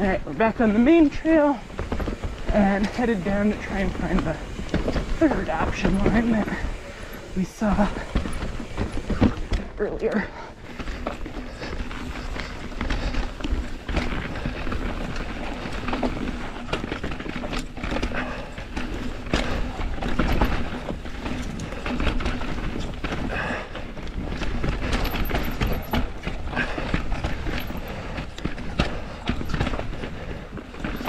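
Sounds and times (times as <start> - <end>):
bike knocking and rattling: 0.0 - 31.0
bike tyres rolling over dirt: 0.0 - 31.0.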